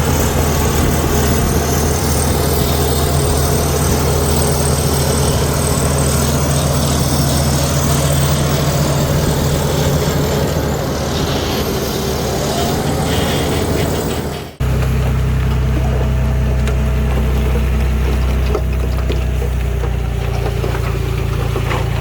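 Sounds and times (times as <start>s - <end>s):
heavy diesel engine droning: 0.0s - 22.0s
mechanical noise: 0.0s - 22.0s.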